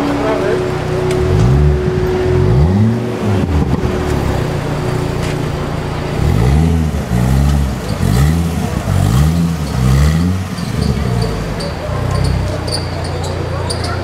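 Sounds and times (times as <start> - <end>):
car engine revving in short blips: 0.0 - 14.0.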